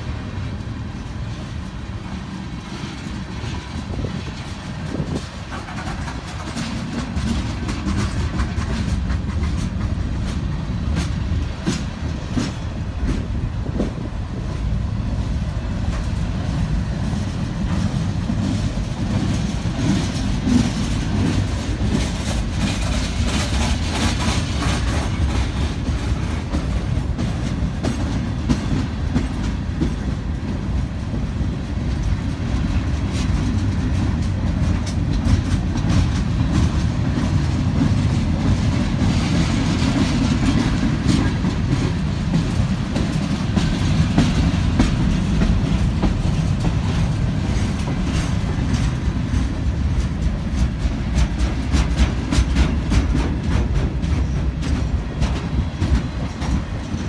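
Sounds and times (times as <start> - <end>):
clickety-clack over rail joints: 0.0 - 57.0
freight train wheels rumbling on rails: 0.0 - 57.0.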